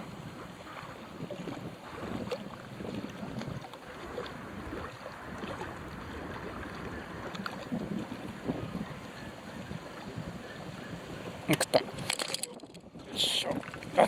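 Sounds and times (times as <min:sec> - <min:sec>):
lake water lapping: 0:00.0 - 0:14.0
wind buffeting microphone: 0:00.0 - 0:14.0.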